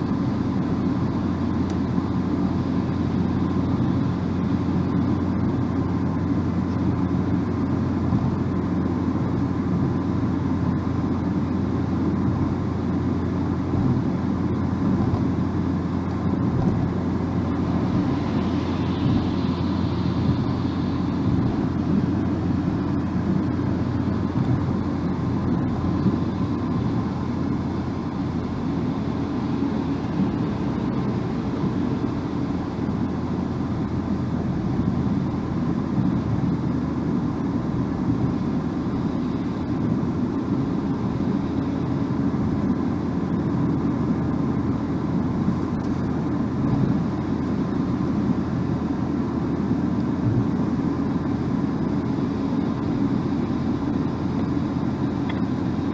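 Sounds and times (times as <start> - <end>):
car interior driving rumble: 0.0 - 55.9.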